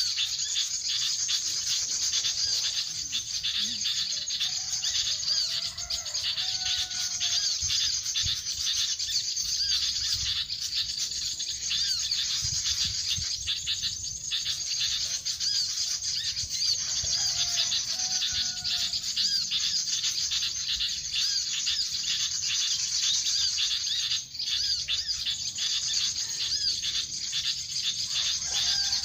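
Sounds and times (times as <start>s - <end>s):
birds chirping: 0.0s - 29.0s
high-pitched bird chatter: 0.0s - 29.0s
low whistled bird notes: 0.0s - 29.0s.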